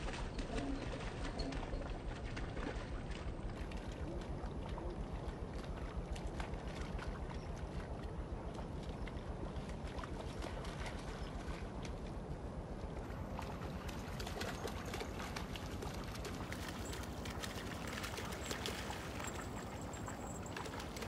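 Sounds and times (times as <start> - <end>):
dog wading through splashing water: 0.0 - 21.0.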